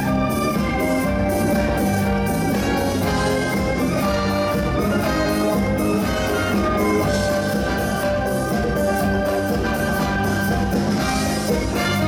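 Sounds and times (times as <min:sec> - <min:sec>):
drum kit and percussion: 0:00.0 - 0:12.0.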